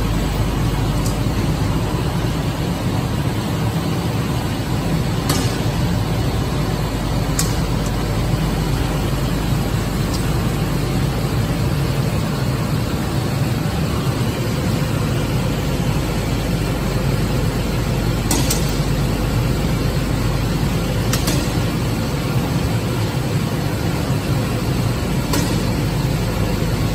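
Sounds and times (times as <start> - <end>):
workshop machinery drone: 0.0 - 26.9.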